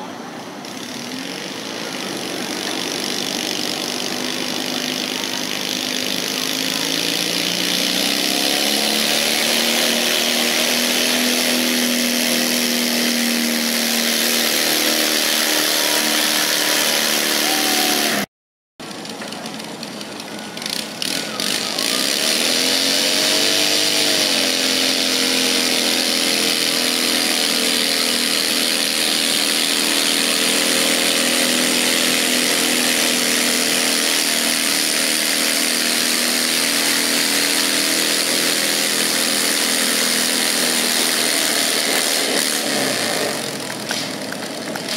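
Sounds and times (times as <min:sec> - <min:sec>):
tractor engine revving: 0:00.0 - 0:44.9
tractor engines running hard: 0:00.0 - 0:44.9.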